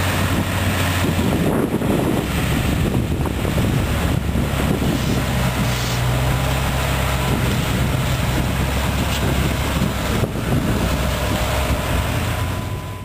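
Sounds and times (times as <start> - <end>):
harvester machinery running: 0.0 - 13.0
tractor diesel engine under load: 0.0 - 13.0.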